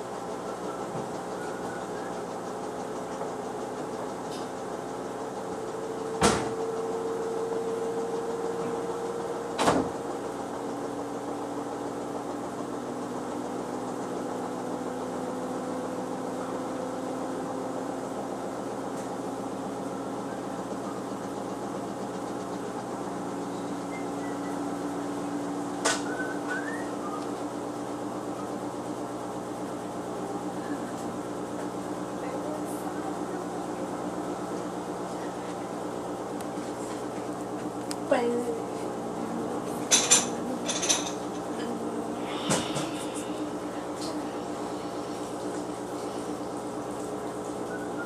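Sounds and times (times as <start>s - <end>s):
washing machine motor hum: 0.0s - 48.0s.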